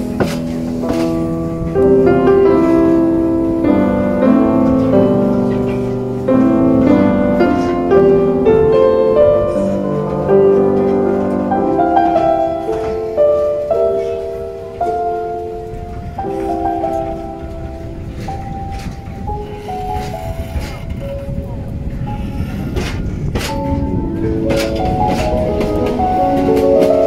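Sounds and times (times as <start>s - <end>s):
slow piano melody: 0.0s - 27.0s.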